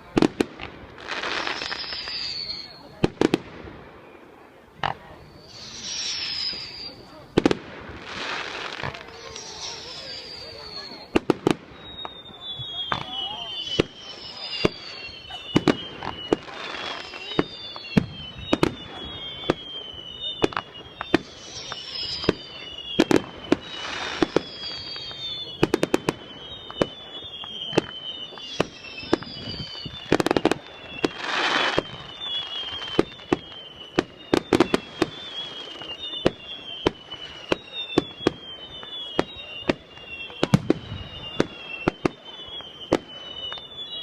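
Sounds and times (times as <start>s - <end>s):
fireworks bangs: 0.0s - 44.0s
fireworks crackling hiss: 0.0s - 44.0s
high whistles falling in pitch: 0.9s - 44.0s.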